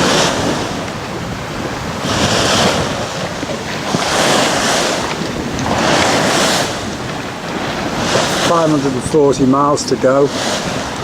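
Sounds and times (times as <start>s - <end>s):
water rushing past a hull: 0.0s - 11.0s
wind on microphone: 0.0s - 11.0s.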